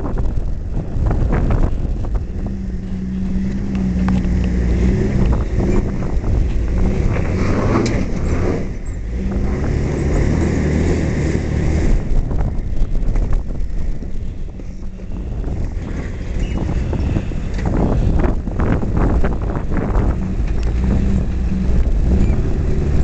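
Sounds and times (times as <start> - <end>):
engine running under load: 0.0 - 23.0.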